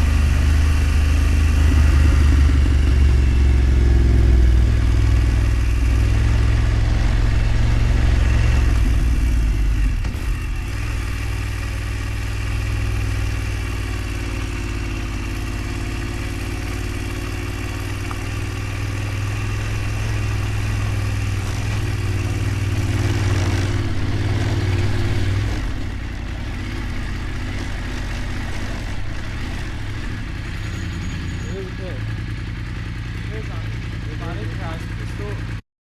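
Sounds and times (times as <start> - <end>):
vehicle engine droning: 0.0 - 35.6.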